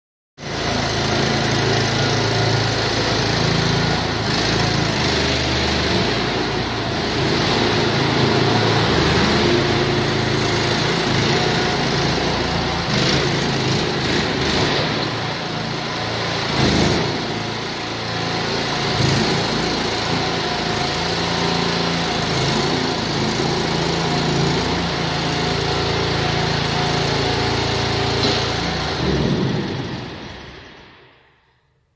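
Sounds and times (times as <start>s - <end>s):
loader engine running: 0.4s - 31.2s.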